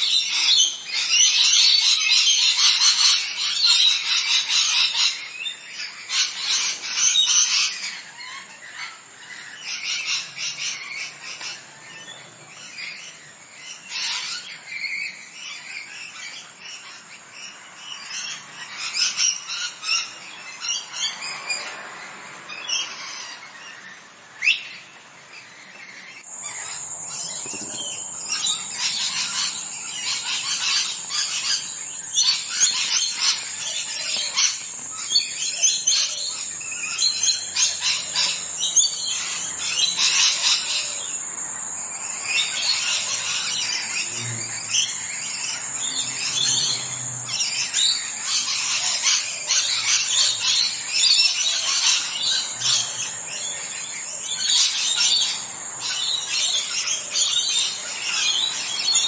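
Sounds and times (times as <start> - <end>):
parrots chirping and calling: 0.0 - 59.0.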